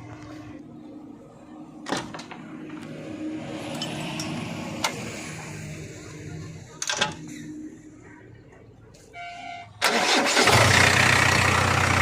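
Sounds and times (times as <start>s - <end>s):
diesel engine idling: 2.4s - 12.0s.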